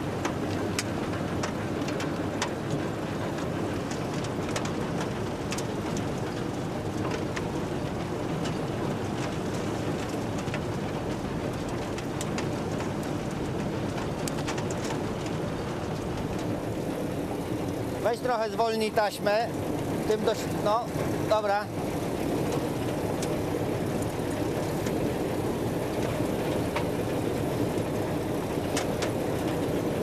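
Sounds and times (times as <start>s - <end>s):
harvester mechanical drone: 0.0s - 30.0s.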